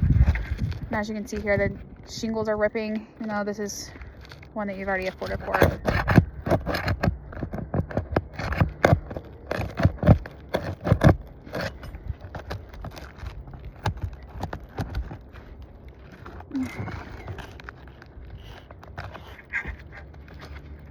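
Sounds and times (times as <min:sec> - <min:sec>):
roof shingles scraping and crackling: 0:00.0 - 0:20.9.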